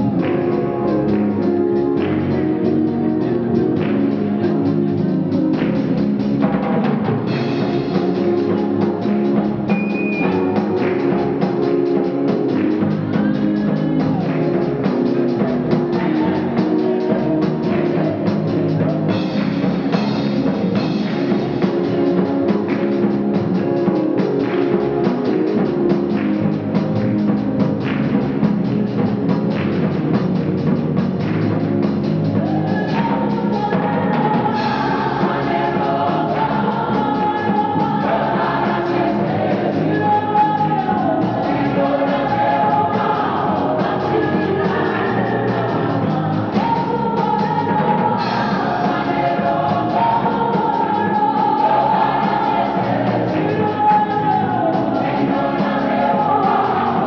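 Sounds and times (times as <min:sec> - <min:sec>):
drum kit beat: 0:00.0 - 0:57.0.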